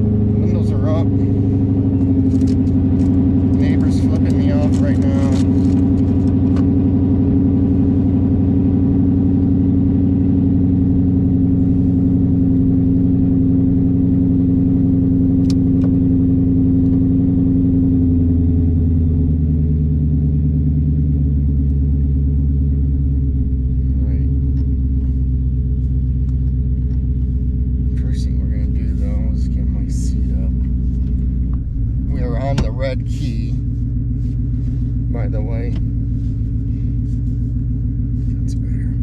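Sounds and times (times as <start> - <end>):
car engine heard from cabin: 0.0 - 39.0.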